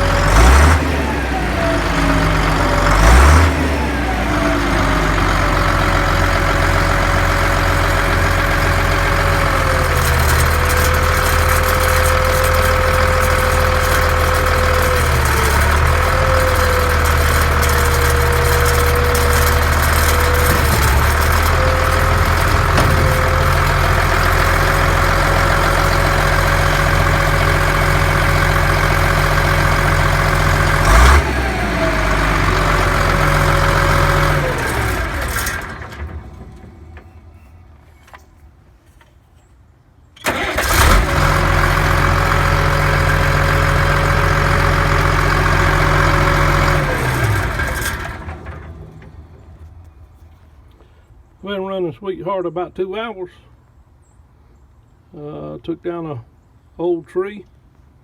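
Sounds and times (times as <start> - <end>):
loader engine idling: 0.0 - 38.4, 40.2 - 51.2.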